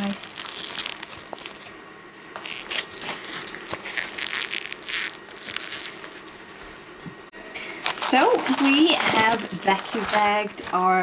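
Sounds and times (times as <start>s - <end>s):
plastic bags crinkling: 0.0s - 6.3s, 7.6s - 11.0s.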